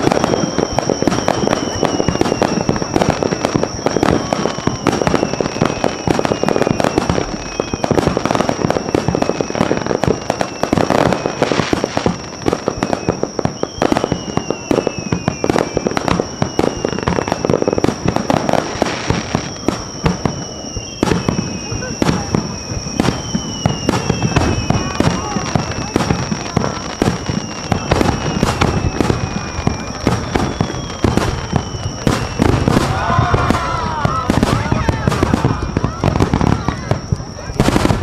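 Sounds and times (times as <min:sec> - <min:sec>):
fireworks bursting and crackling: 0:00.0 - 0:38.0
fireworks whistles sliding down: 0:00.0 - 0:38.0.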